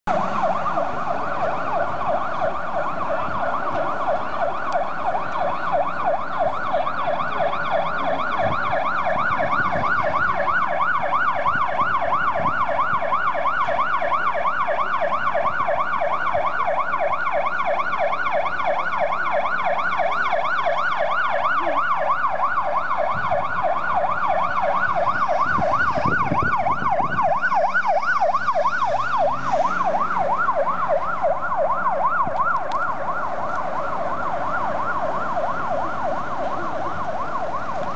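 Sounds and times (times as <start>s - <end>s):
city traffic: 0.0s - 37.9s
emergency sirens yelping: 0.0s - 37.9s.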